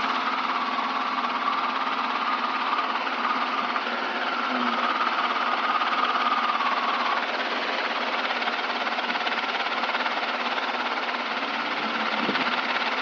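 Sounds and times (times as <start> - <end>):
helicopter engine and rotor din: 0.0 - 13.0.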